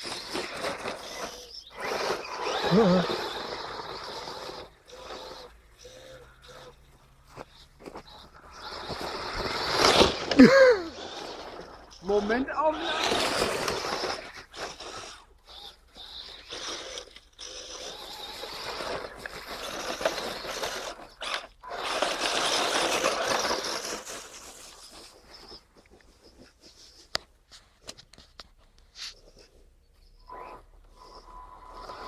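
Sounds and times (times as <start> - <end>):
toy truck tyres crunching: 0.0 - 32.0.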